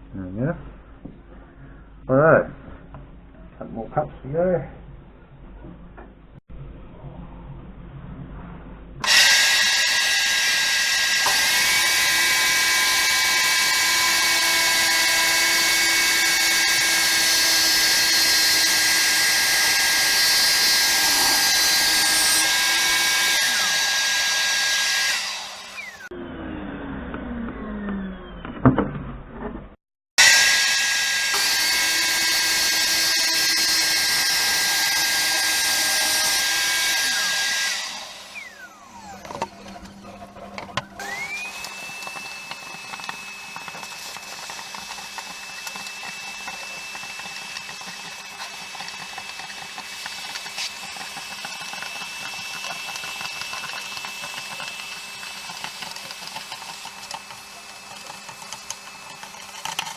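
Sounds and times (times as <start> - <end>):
electric power tool whining: 9.0 - 28.7, 30.2 - 59.9
motor spinning up: 9.0 - 28.7, 30.2 - 59.9.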